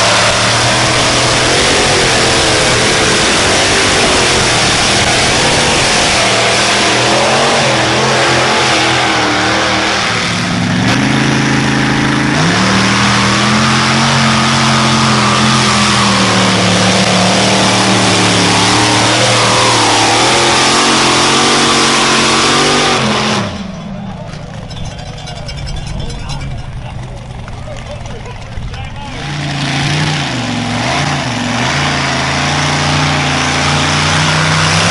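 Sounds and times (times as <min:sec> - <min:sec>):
pulling vehicle engine under load: 0:00.0 - 0:34.9.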